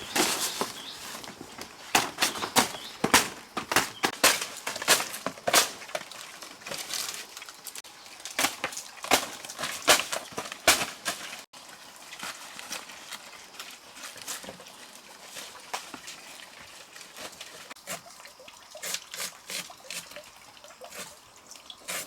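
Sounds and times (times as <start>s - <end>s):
pig chewing leaves: 0.0s - 18.1s.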